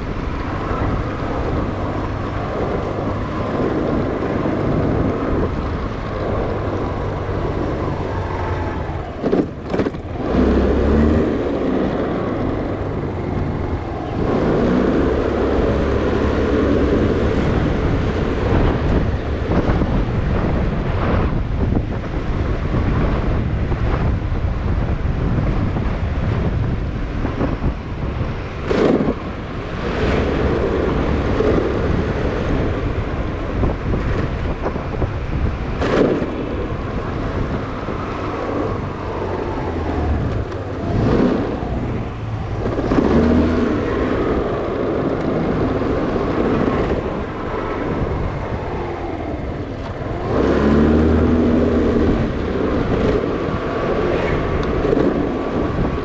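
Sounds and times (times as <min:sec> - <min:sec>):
scooter engine running: 0:00.0 - 0:56.0
wind buffeting microphone: 0:00.0 - 0:56.0.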